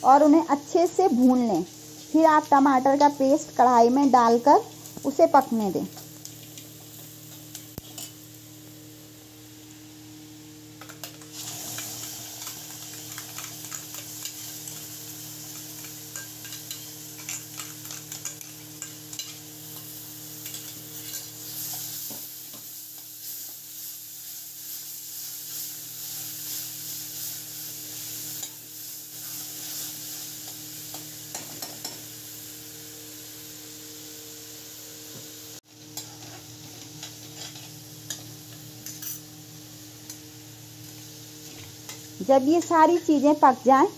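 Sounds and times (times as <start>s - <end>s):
spices sizzling in hot oil: 0.0s - 43.9s.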